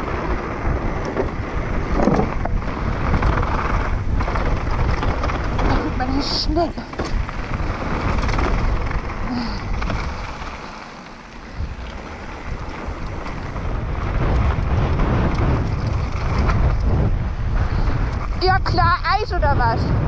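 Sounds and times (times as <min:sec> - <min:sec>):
bike rumbling over rough trail: 0:00.0 - 0:20.0
wind rushing over microphone: 0:00.0 - 0:20.0.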